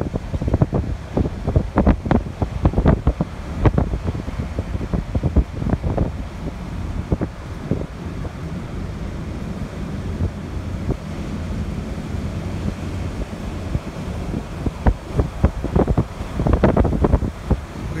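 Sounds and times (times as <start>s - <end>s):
truck rumbling on sand: 0.0s - 18.0s
wind buffeting microphone: 0.0s - 18.0s.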